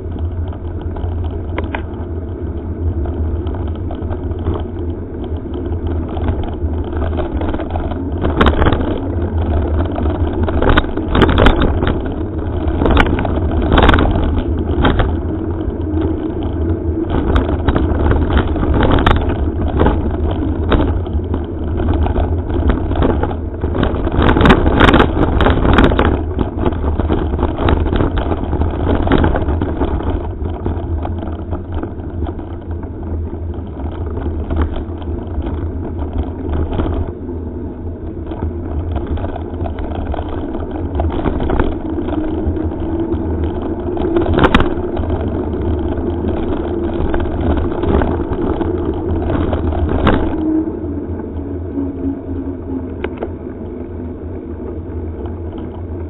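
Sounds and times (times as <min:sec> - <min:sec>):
bike knocks and rattles: 0:00.0 - 0:53.7
tyres on gravel: 0:00.0 - 0:56.0
wind buffeting microphone: 0:00.0 - 0:56.0.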